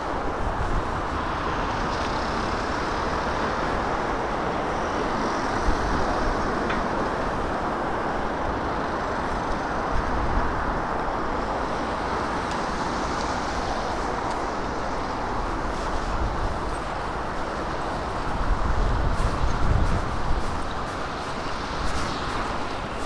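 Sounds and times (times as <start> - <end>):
traffic noise: 0.0 - 23.0
wind rumble on microphone: 0.0 - 23.0.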